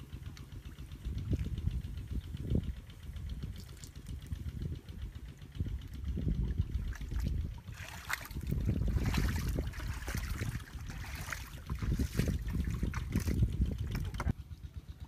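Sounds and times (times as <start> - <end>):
splashing in muddy water: 0.0 - 14.3
low rumble: 0.0 - 15.0.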